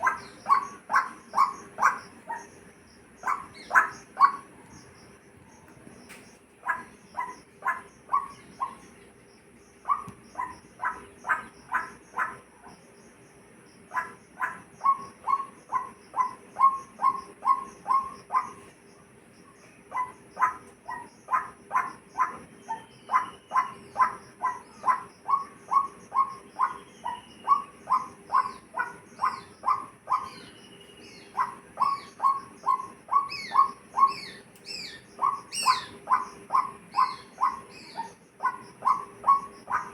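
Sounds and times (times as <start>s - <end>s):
faint high bird chirps: 0.0s - 39.9s
steady high insect whine: 0.0s - 39.9s.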